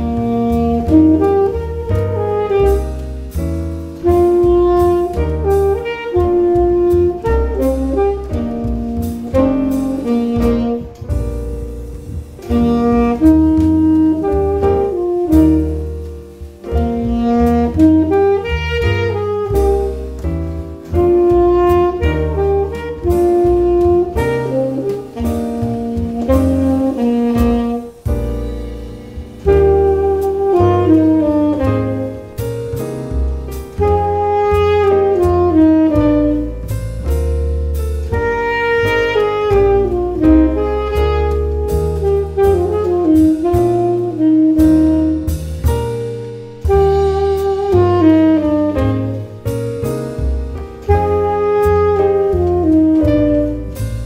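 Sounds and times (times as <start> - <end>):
saxophone melody: 0.0 - 3.4, 4.0 - 20.2, 20.8 - 32.7, 33.7 - 37.3, 38.0 - 54.0
bass line: 0.0 - 54.0
steady drum beat: 0.0 - 54.0.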